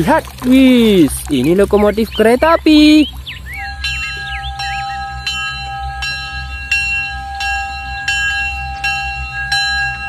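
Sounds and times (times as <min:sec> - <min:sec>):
low steady hum: 0:00.0 - 0:10.0
locomotive bell ringing: 0:01.8 - 0:10.0.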